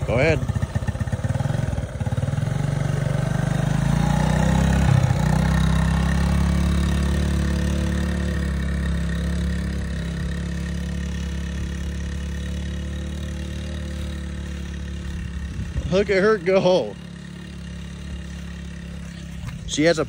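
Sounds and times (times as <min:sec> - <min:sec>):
small engine pulling away: 0:00.0 - 0:20.0.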